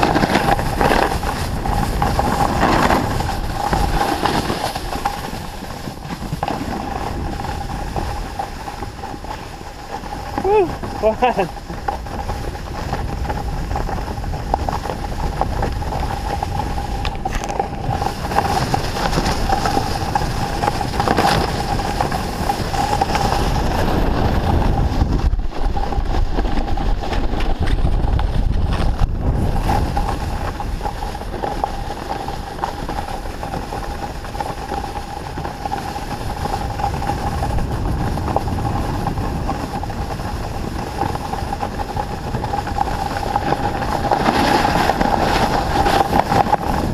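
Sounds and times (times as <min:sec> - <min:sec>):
snowboard sliding over snow: 0:00.0 - 0:46.9
wind buffeting microphone: 0:00.0 - 0:46.9.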